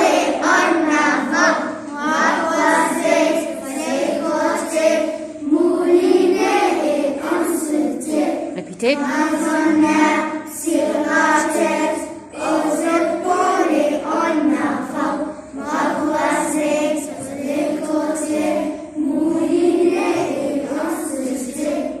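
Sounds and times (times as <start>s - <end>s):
children singing in chorus: 0.0s - 22.0s.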